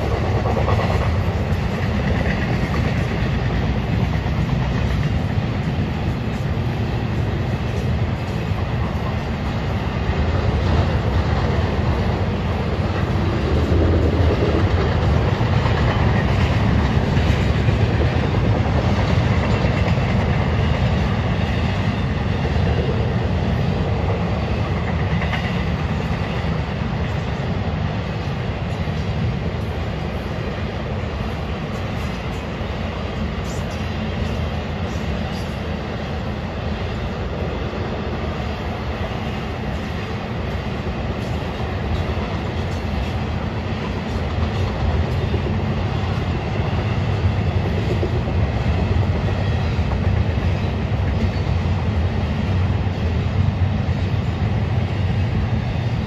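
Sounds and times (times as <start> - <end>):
freight train rumbling over bridge: 0.0 - 56.0.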